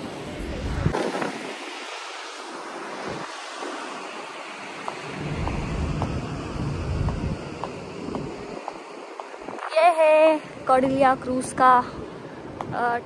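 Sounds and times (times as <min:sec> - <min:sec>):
low wind buffeting gusts: 0:00.0 - 0:13.0
wind blowing across microphone: 0:00.0 - 0:13.0.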